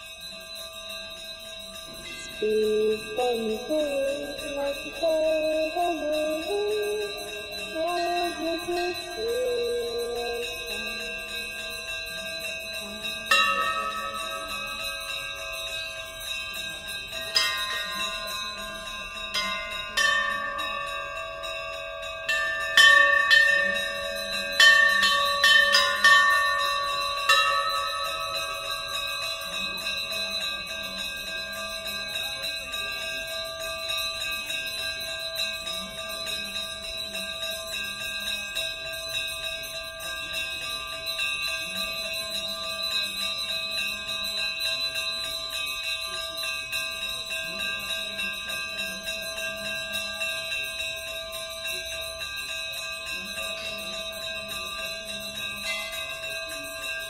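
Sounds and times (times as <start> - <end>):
temple bells ringing: 0.0 - 57.0.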